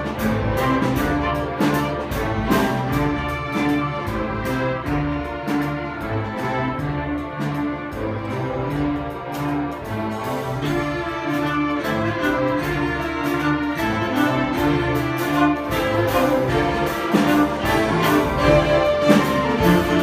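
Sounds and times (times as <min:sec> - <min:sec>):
string orchestra playing: 0:00.0 - 0:20.0.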